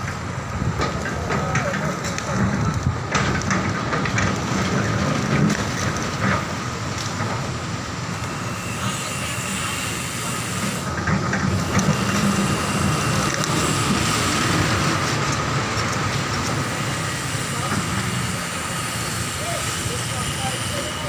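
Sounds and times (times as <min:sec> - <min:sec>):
excavator diesel engine whining: 0:00.0 - 0:21.0
passing road traffic: 0:00.0 - 0:21.0.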